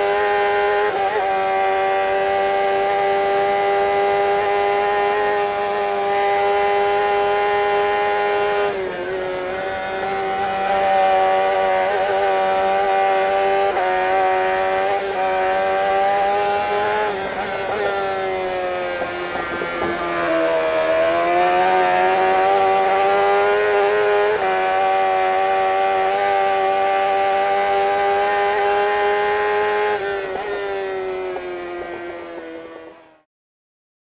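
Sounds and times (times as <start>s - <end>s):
motorcycle engine at high revs: 0.0s - 33.3s.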